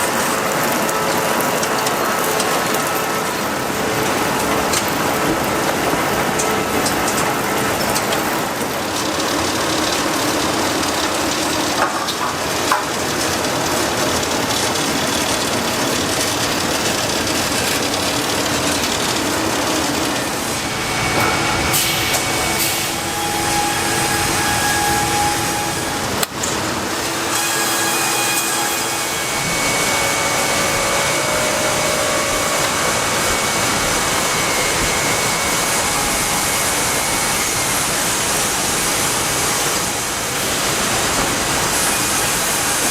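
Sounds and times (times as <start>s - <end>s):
woodworking machinery running: 0.0s - 42.9s.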